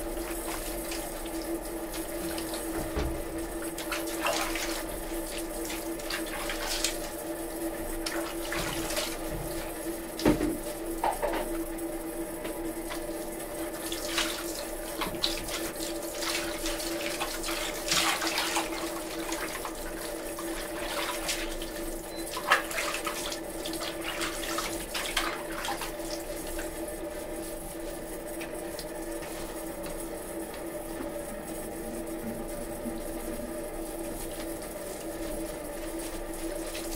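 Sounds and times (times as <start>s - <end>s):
water splashing and sloshing: 0.0s - 10.7s, 12.9s - 36.9s
water running into basin: 0.0s - 10.8s, 12.8s - 30.2s, 32.2s - 36.9s
steady hum: 0.0s - 36.9s.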